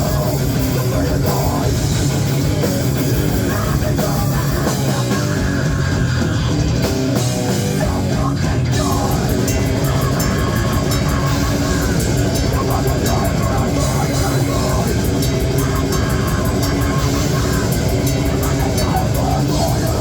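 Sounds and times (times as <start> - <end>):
metal band playing live: 0.0 - 20.0.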